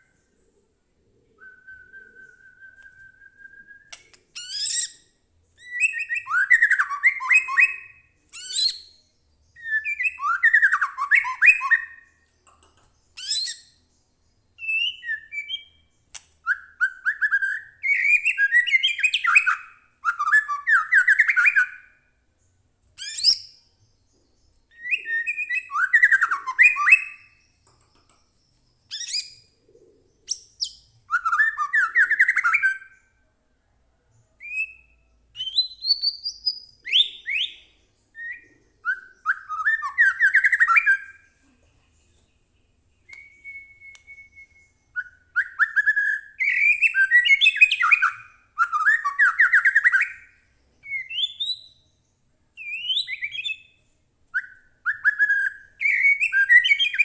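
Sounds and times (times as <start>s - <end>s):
bird singing: 1.2s - 33.3s, 34.2s - 41.4s, 42.0s - 57.0s.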